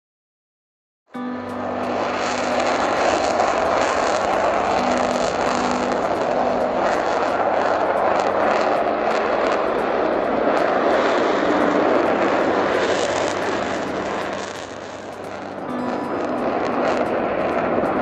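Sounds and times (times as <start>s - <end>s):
fighter jet roar: 1.4s - 18.0s.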